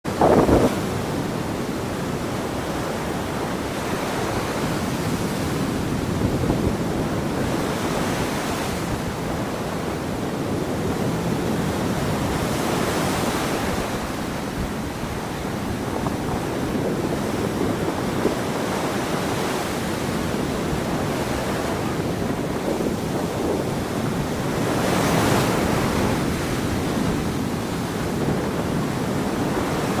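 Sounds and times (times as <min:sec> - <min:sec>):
ocean surf washing onto beach: 0:00.0 - 0:30.0
wind on microphone: 0:00.0 - 0:30.0.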